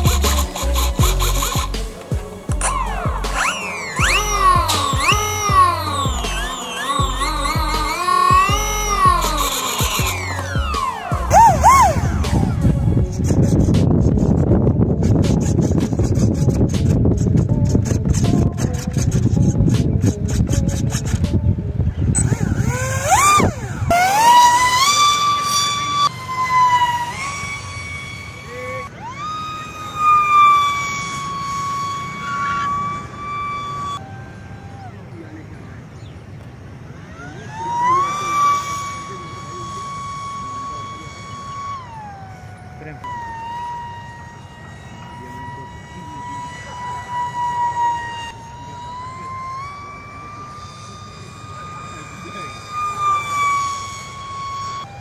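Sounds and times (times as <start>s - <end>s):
small electric motor and propeller whining: 0.0s - 55.0s.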